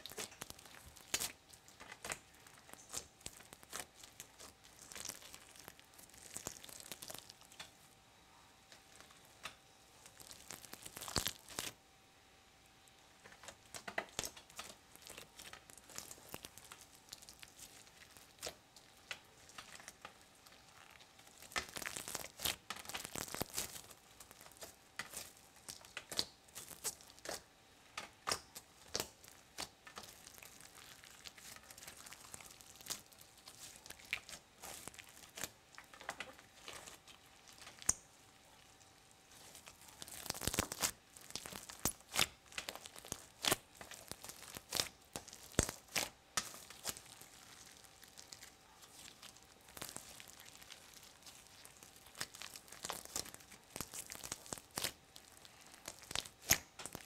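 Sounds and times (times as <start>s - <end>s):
slime crackling and popping: 0.0s - 7.8s, 8.7s - 11.8s, 13.2s - 57.0s.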